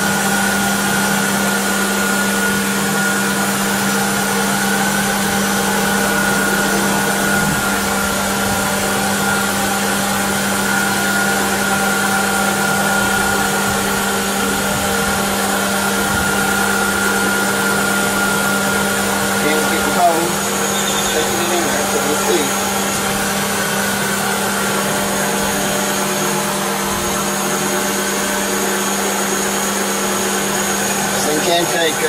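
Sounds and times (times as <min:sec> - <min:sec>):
air-conditioning compressor whine: 0:00.0 - 0:32.0
car engine idling: 0:00.0 - 0:32.0.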